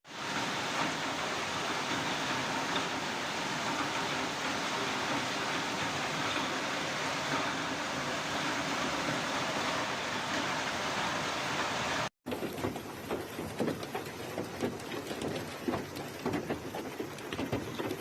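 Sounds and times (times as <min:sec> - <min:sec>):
heavy rain pelting hard surface: 0:00.1 - 0:18.0.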